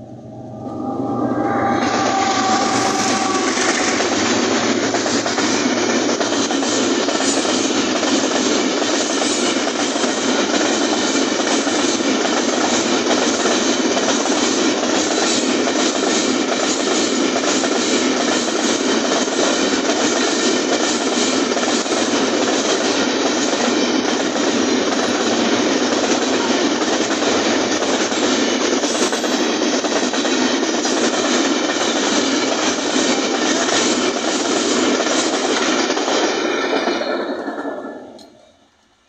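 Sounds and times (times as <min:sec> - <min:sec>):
train wheels on rails: 0:00.0 - 0:39.0.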